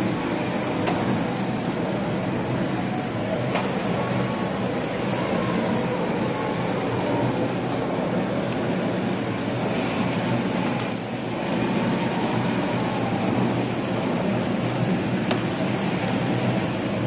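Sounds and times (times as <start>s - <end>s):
stretch wrapper machine whirring: 0.0s - 17.0s.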